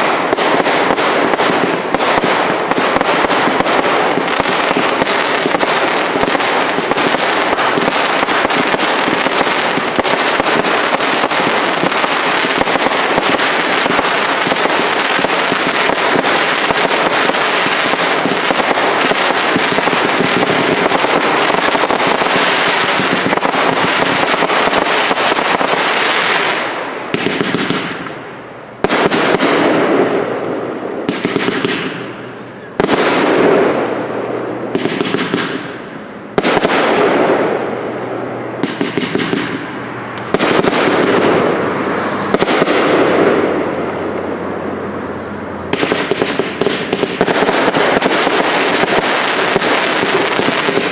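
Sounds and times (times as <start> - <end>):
fireworks launching and crackling: 0.0 - 50.9.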